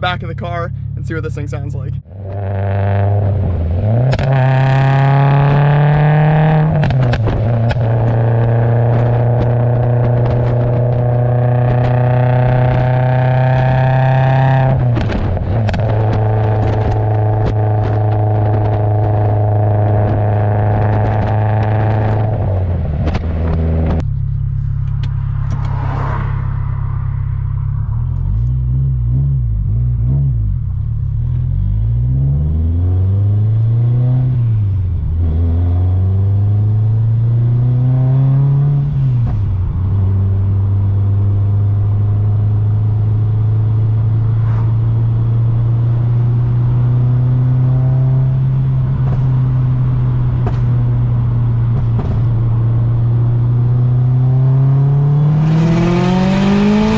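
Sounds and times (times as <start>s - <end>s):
car exhaust note: 0.0s - 56.9s.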